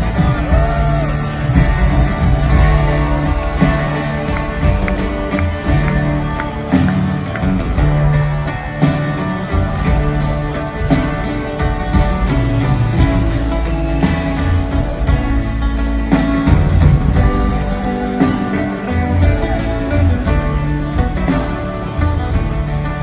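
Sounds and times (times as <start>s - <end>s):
strummed acoustic guitars: 0.0s - 23.0s
upright bass: 0.0s - 23.0s.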